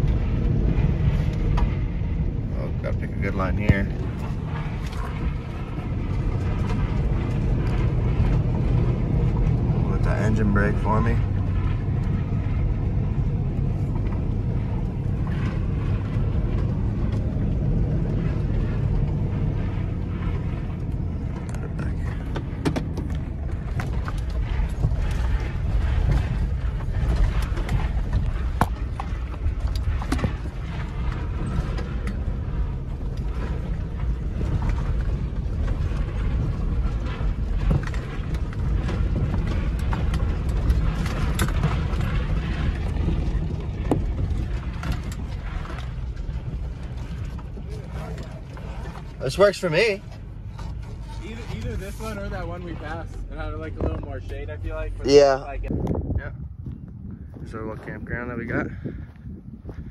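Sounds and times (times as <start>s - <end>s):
body and suspension rattles: 0.0s - 59.9s
low engine and road rumble: 0.0s - 59.9s.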